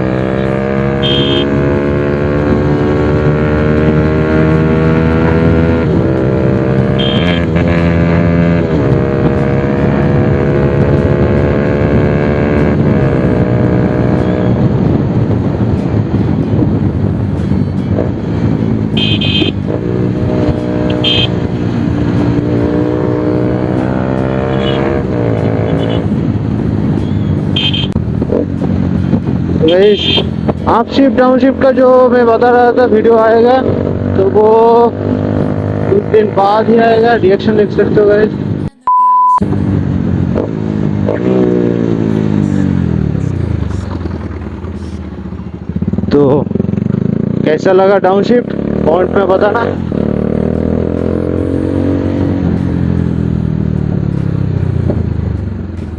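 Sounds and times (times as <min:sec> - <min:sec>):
motorcycle engine revving: 0:00.0 - 0:38.7, 0:39.4 - 0:55.9.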